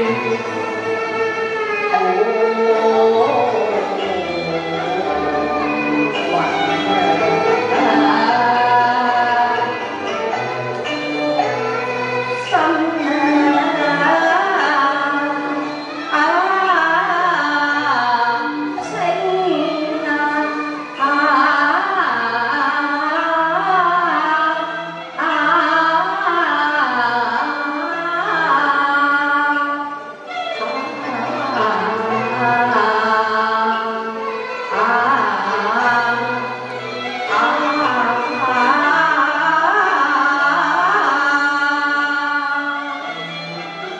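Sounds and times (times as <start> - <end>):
instrumental accompaniment: 0.0 - 43.9.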